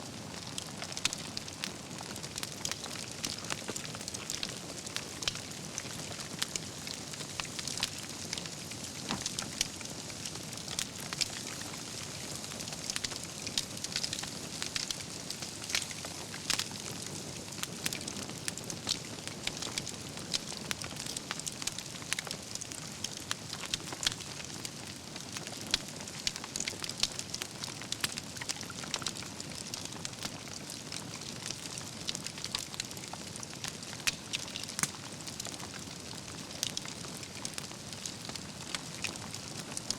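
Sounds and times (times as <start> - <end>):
campfire hissing: 0.0 - 39.9
fire crackling and popping: 0.0 - 39.9.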